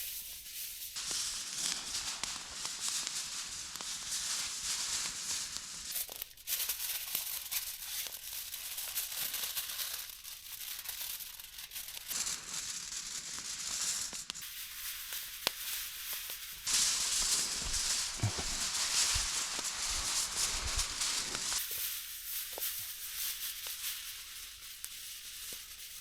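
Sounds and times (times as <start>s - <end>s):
aluminium foil crinkling: 0.0s - 26.0s.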